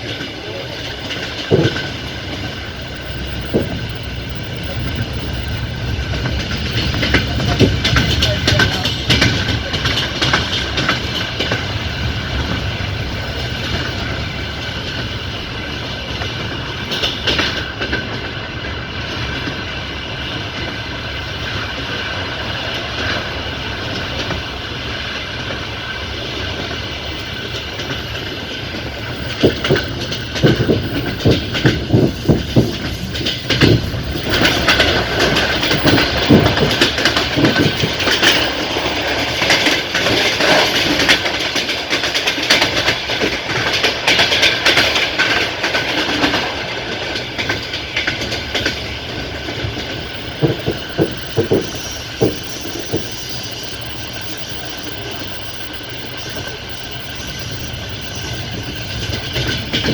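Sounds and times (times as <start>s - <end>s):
train wheels rumbling on rails: 0.0s - 59.9s
wheels clattering over track joints: 0.0s - 59.9s.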